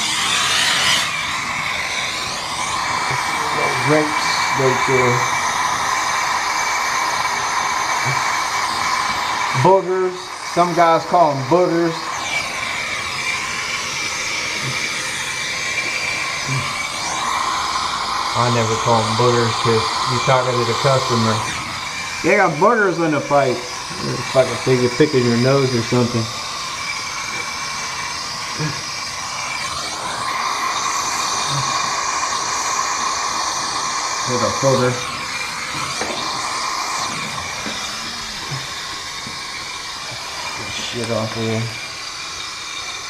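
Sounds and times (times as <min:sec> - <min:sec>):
gas torch flame hissing: 0:00.0 - 0:43.0.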